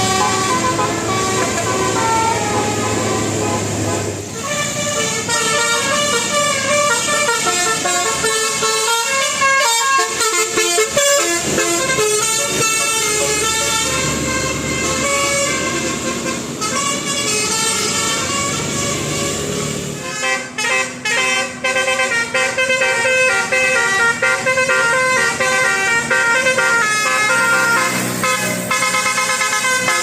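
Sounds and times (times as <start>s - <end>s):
musical air horns playing a tune: 0.0s - 30.0s.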